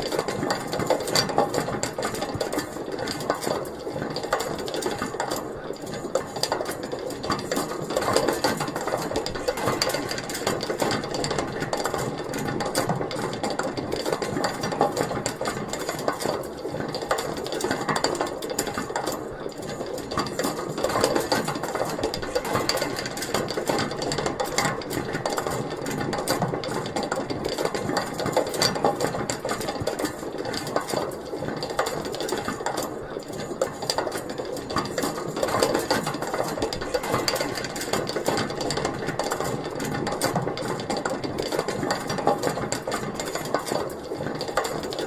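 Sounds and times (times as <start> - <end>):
metal pulley wheel rattling: 0.0 - 45.0.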